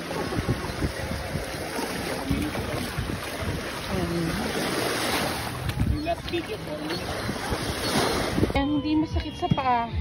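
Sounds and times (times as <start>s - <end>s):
small waves washing onto sand: 0.0s - 8.6s
wind buffeting microphone: 0.0s - 10.0s.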